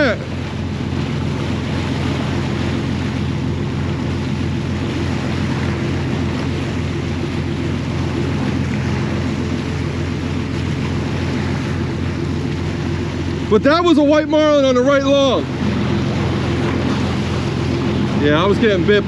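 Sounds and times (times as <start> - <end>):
boat engines droning: 0.0 - 19.0
wind and water hiss: 0.0 - 19.0.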